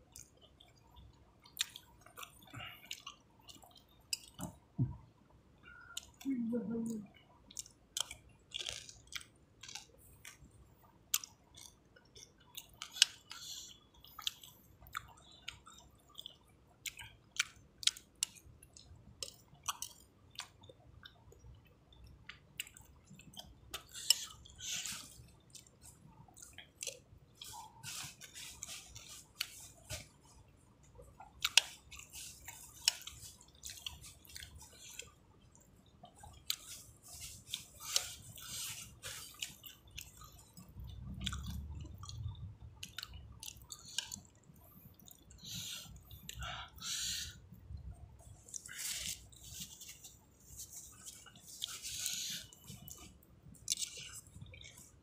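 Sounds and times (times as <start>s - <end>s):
person chewing with wet smacks: 0.0s - 55.0s.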